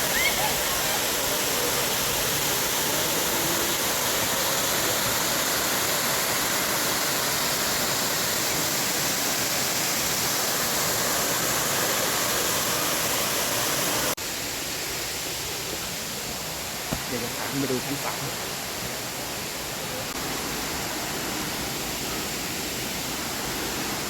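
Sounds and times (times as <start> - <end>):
waterfall rushing over rock: 0.0 - 24.0.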